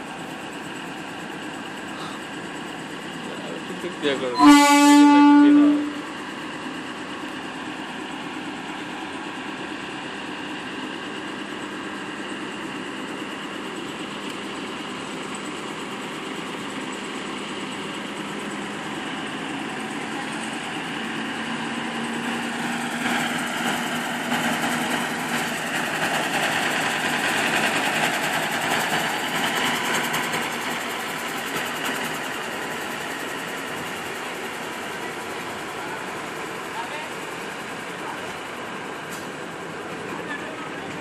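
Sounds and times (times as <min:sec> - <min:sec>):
diesel train engine droning: 0:00.0 - 0:41.0.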